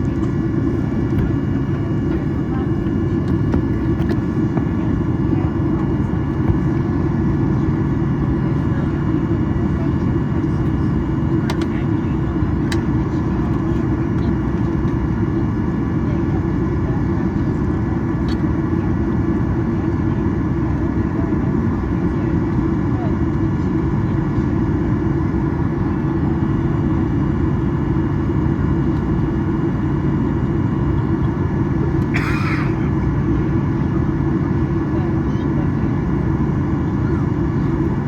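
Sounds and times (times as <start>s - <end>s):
aircraft cabin rumble: 0.0s - 38.0s.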